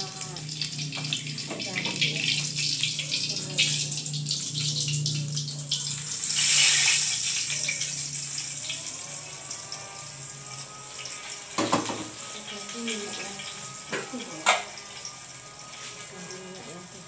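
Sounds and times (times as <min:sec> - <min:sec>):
hot oil sizzling in a wok: 0:00.0 - 0:17.0.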